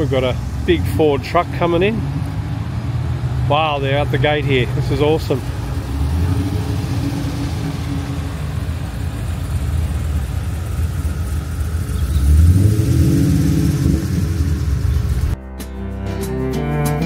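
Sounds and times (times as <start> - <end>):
car engines driving slowly past: 0.0 - 15.4.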